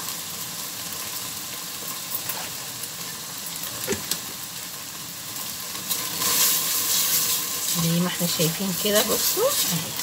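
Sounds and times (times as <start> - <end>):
eggplant deep-frying in oil: 0.0 - 10.0.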